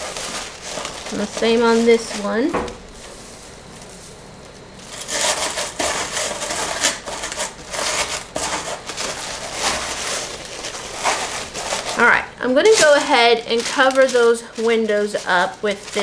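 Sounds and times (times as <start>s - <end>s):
paper rustling and crackling: 0.0s - 16.0s.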